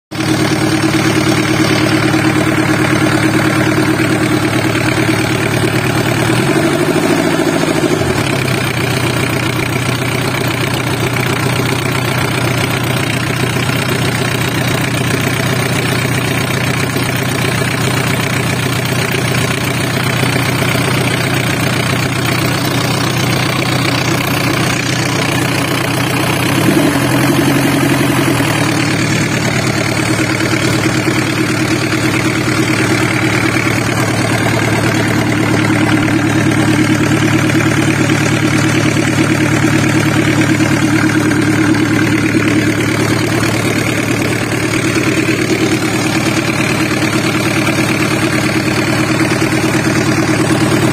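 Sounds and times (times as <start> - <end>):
engine idling: 0.1 - 50.9.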